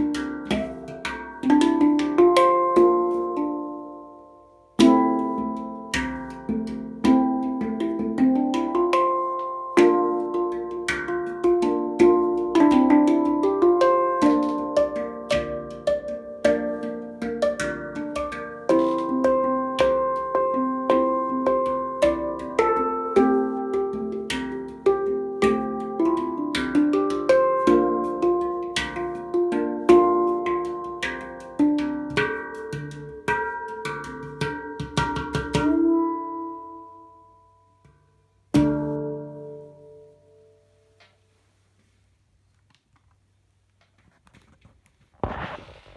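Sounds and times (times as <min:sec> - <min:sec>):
handpan notes ringing: 0:00.0 - 0:40.7.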